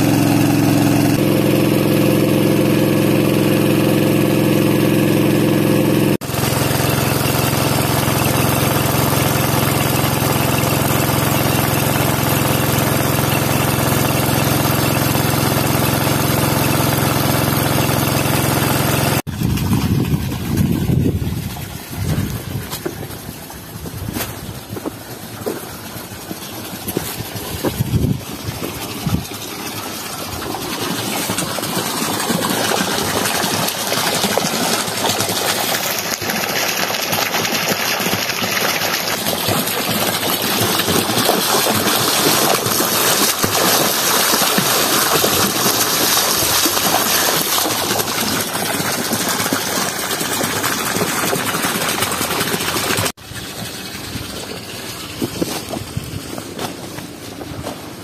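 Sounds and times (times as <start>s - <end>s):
water rushing from a pipe: 0.0s - 58.0s.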